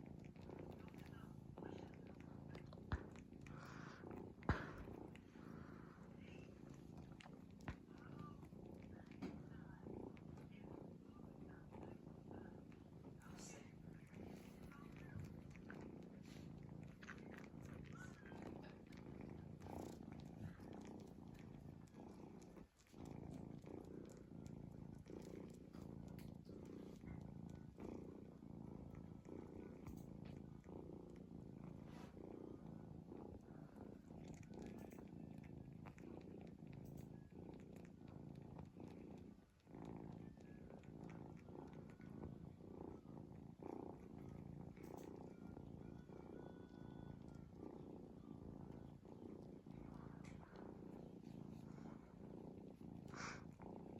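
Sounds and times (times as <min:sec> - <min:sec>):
cat snoring: 0:00.0 - 0:53.9.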